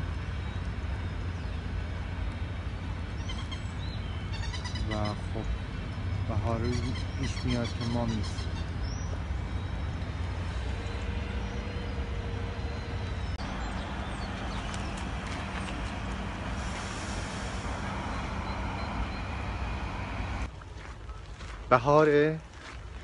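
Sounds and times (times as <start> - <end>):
heavy low rumble: 0.0 - 20.5.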